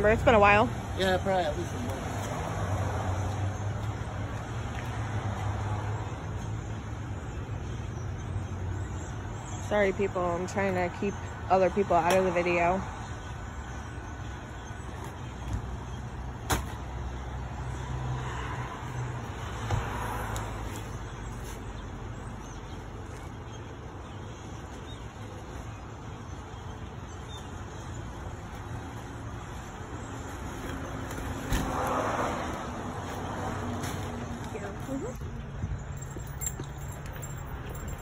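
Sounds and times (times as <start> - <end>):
low rumble of road traffic: 0.0 - 38.0.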